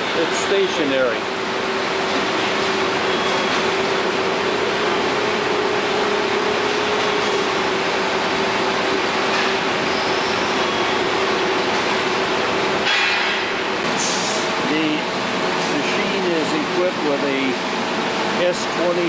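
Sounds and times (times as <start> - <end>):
machinery running with hiss and hum: 0.0 - 19.0.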